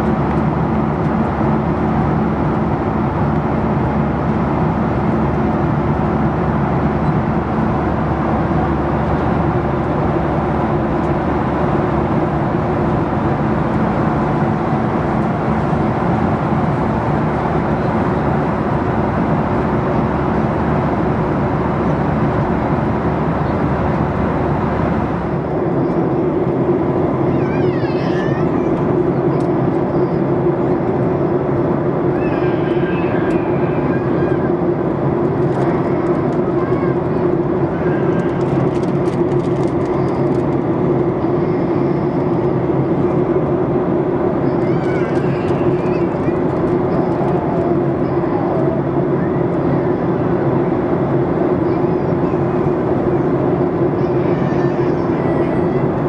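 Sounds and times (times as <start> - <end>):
airplane cabin engine hum: 0.0 - 56.0.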